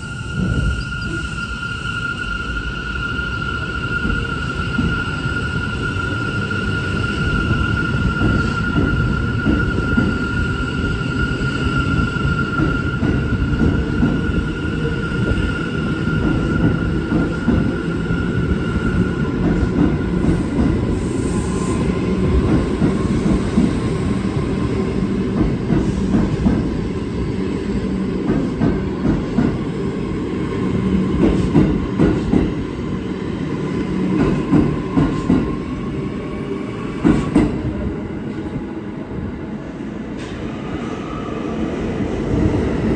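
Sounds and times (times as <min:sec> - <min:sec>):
subway train rumbling: 0:00.0 - 0:42.9.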